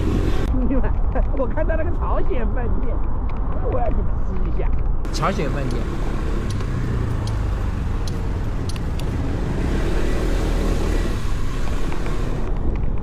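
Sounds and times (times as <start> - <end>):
street noise rumble: 0.0 - 13.0.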